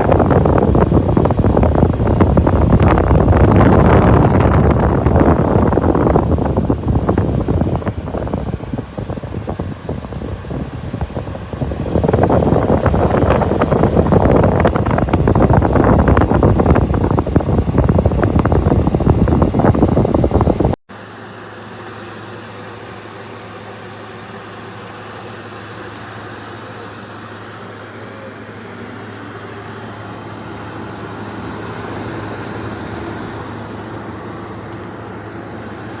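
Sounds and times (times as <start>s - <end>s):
air conditioner fan rushing: 0.0s - 36.0s.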